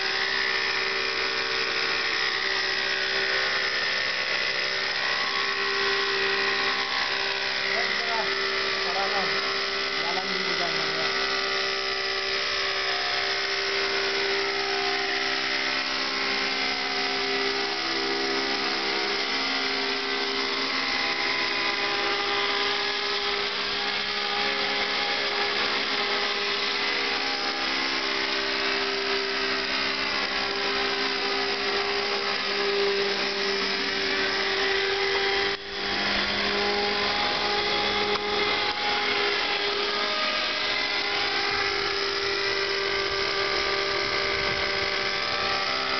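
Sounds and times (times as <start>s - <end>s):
model helicopter engine running: 0.0s - 45.9s.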